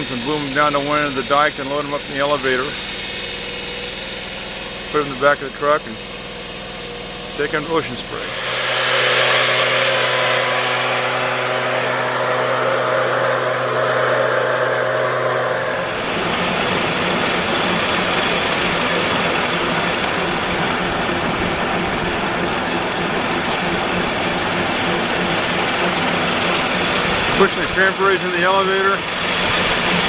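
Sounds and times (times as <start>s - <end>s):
harvest machinery engine running: 0.0s - 30.0s.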